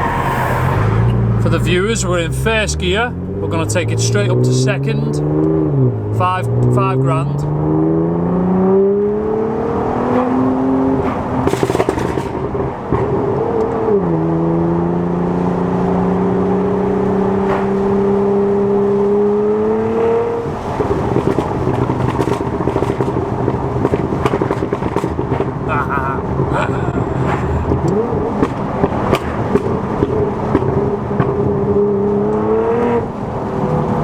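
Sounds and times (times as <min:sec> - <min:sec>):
car engine revving through gears: 0:00.0 - 0:34.0.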